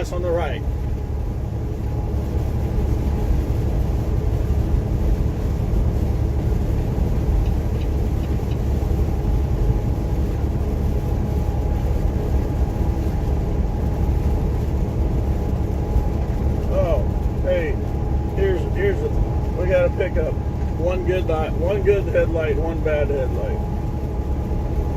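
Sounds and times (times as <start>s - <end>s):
diesel truck engine droning: 0.0s - 24.9s
tyres on wet road: 0.0s - 24.9s.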